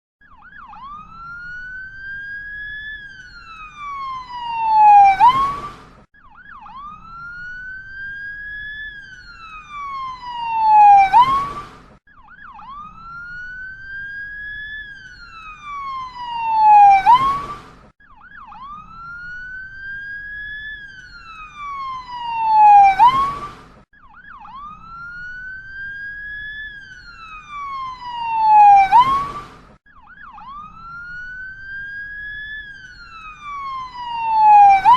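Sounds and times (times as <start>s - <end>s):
ambulance siren wailing: 0.2s - 34.9s.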